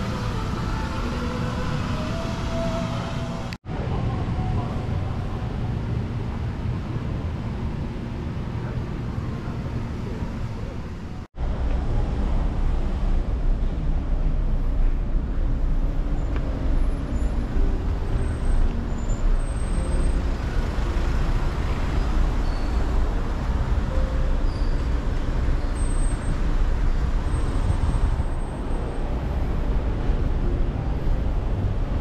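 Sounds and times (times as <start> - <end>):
cars and buses passing: 0.0 - 32.0.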